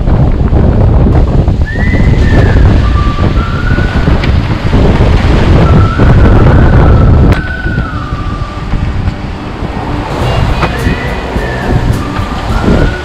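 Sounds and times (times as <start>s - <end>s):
gale wind buffeting microphone: 0.0s - 13.0s
waves rushing past hull: 0.0s - 13.0s
thin wind whistle: 1.1s - 13.0s.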